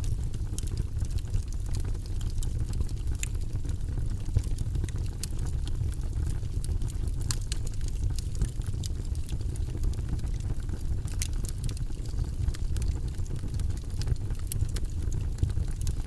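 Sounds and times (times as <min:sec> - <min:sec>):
fire crackles and pops: 0:00.0 - 0:16.0
low rumble of flame: 0:00.0 - 0:16.0.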